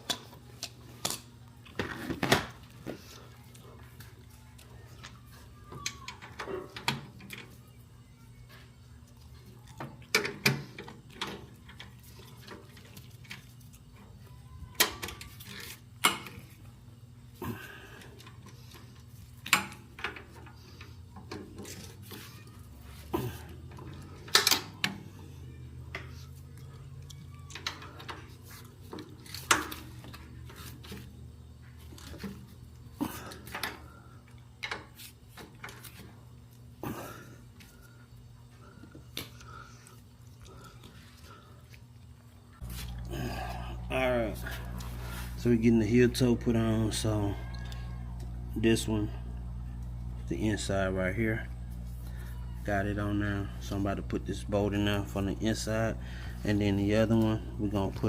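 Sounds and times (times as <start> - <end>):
steady low hum: 6.6 - 58.0.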